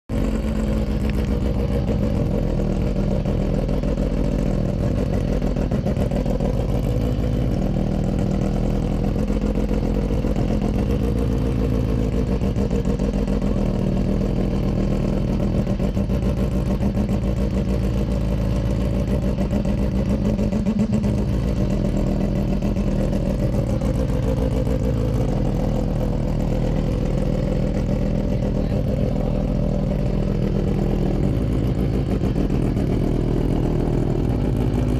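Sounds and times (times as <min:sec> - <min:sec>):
rotary race car engine idling: 0:00.1 - 0:34.9.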